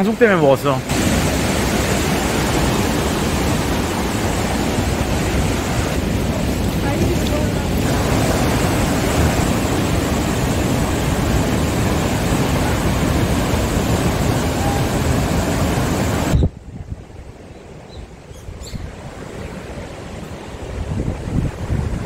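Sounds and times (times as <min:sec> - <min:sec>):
ocean surf breaking: 0:00.0 - 0:16.4, 0:18.8 - 0:22.0
wind buffeting microphone: 0:00.8 - 0:22.0.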